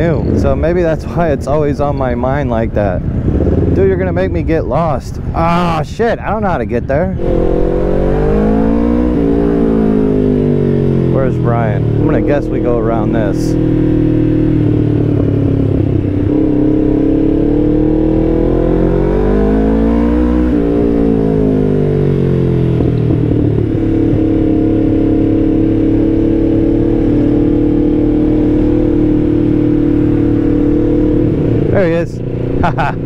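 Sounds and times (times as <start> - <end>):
motorcycle engine running: 0.0 - 4.5, 7.2 - 33.0.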